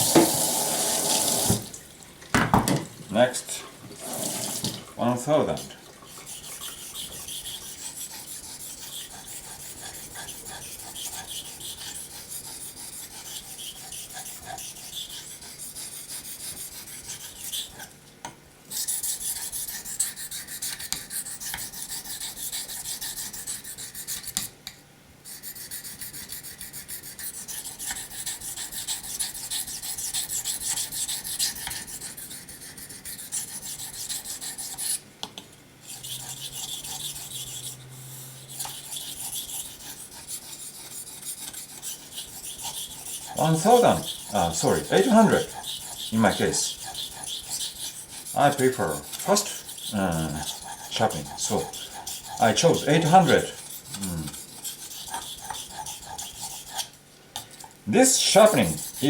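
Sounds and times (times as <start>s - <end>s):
knife scraping on whetstone: 6.1s - 18.0s, 18.7s - 24.5s, 25.2s - 35.0s, 35.8s - 59.0s.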